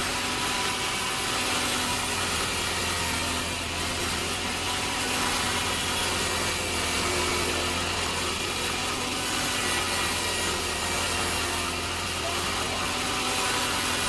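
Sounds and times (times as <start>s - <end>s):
saw cutting through log: 0.0s - 14.0s.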